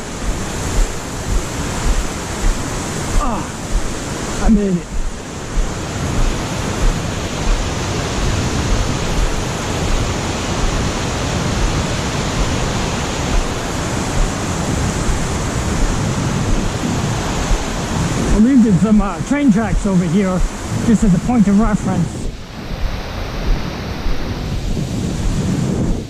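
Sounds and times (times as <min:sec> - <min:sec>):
waterfall rushing: 0:00.0 - 0:25.4.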